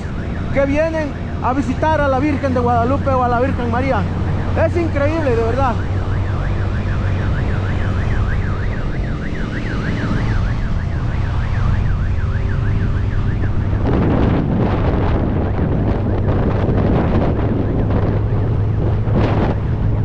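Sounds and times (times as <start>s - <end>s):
motorcycle rumble: 0.0s - 20.0s
siren yelping: 0.0s - 20.0s
wind buffeting microphone: 0.0s - 20.0s.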